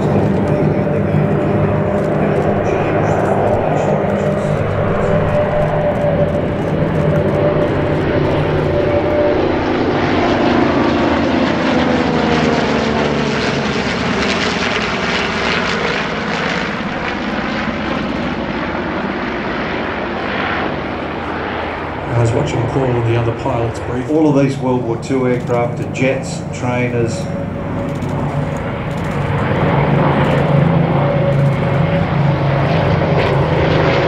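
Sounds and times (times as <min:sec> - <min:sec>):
propeller planes passing overhead: 0:00.0 - 0:34.0.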